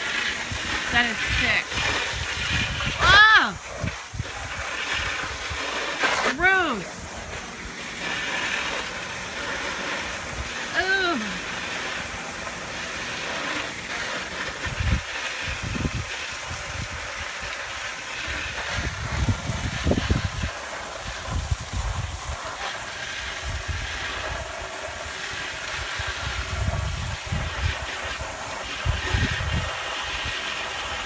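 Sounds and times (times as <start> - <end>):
water spraying hiss: 0.0 - 31.0.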